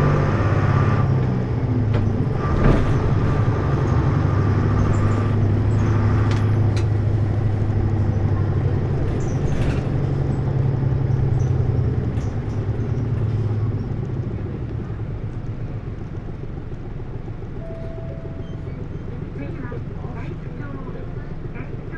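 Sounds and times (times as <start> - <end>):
bus engine drone: 0.0 - 21.9.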